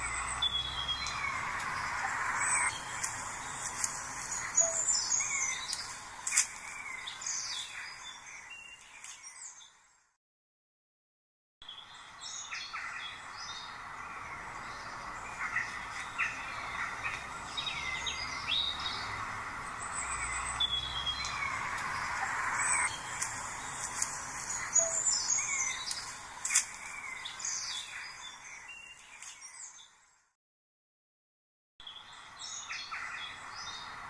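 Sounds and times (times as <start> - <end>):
steady outdoor hiss: 0.0 - 9.6, 11.7 - 29.7
birds chirping and whistling: 0.0 - 9.7, 11.7 - 29.9.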